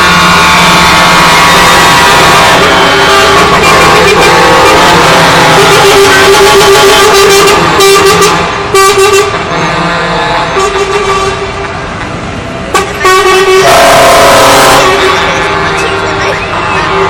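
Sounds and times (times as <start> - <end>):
truck air horn blasts: 0.0 - 11.6, 12.7 - 17.0
truck engines running: 0.0 - 17.0.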